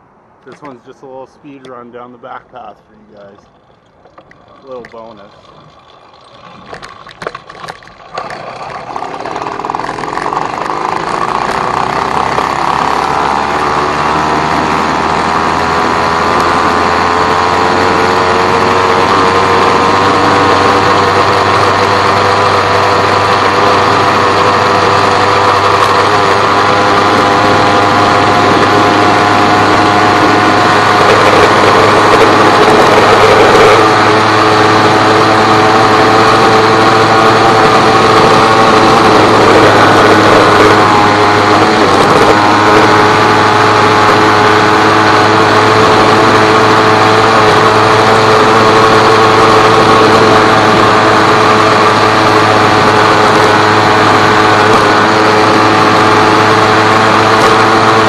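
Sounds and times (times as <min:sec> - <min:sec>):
small engine revving: 0:00.4 - 0:58.0.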